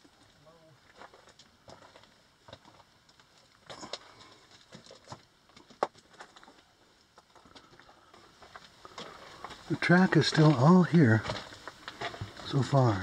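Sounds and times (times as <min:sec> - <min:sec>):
footsteps on dirt and rock: 0:00.0 - 0:13.0.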